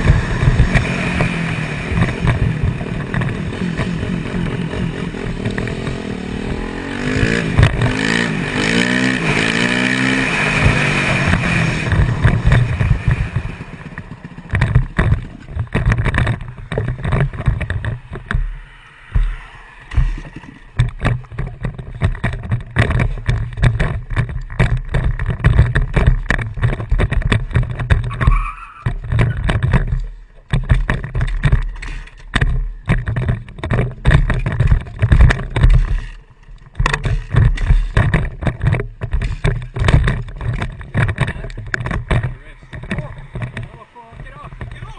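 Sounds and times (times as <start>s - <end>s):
vehicle engine at speed: 0.0s - 44.9s.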